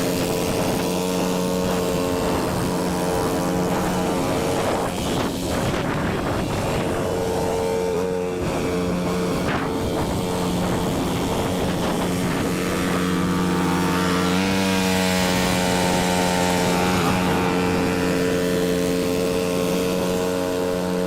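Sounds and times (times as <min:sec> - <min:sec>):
snow blower engine running: 0:00.0 - 0:21.0.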